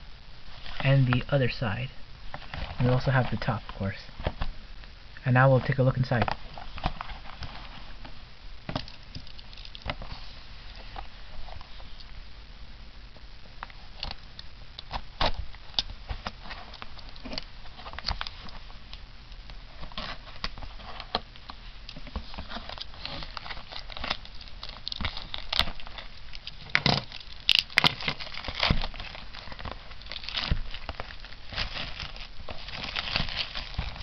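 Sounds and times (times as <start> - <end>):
plastic shrink wrap crinkling: 2.2 - 12.2, 13.6 - 34.0.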